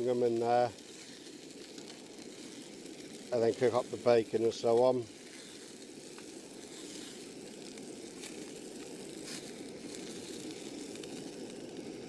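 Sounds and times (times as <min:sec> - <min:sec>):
faint crackles: 0:00.0 - 0:12.0
gas burner rushing: 0:00.0 - 0:12.0
sausages sizzling in frying pan: 0:00.0 - 0:12.0.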